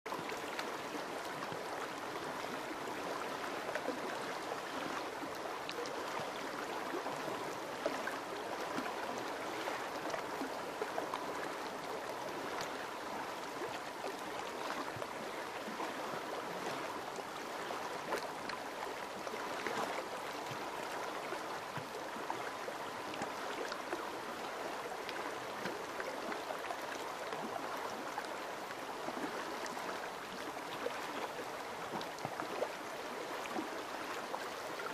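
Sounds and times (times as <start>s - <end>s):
river water rushing: 0.1s - 34.9s
water splashing and gurgling: 0.1s - 34.9s.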